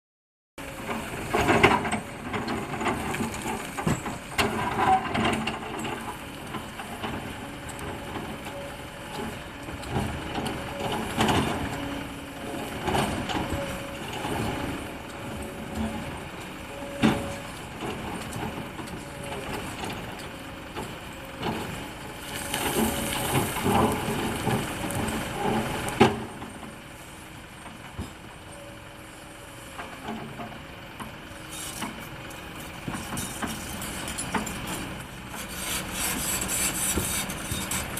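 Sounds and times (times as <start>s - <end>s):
excavator engine running: 0.6s - 37.9s.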